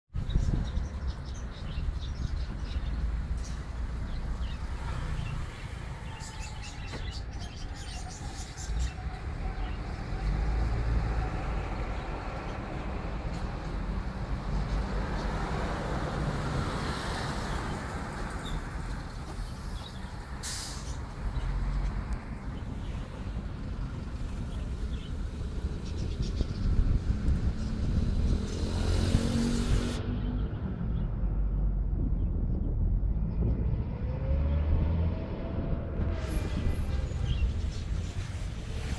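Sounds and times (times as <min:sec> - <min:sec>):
passing vehicles rumbling: 0:00.2 - 0:38.9.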